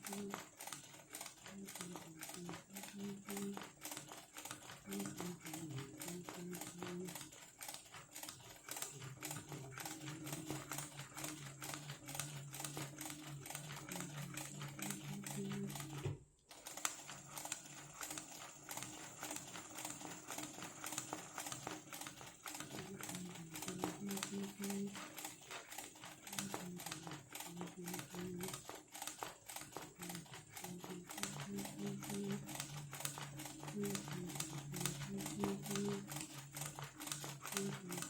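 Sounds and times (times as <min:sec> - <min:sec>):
sewing machine stitching: 0:00.0 - 0:38.0.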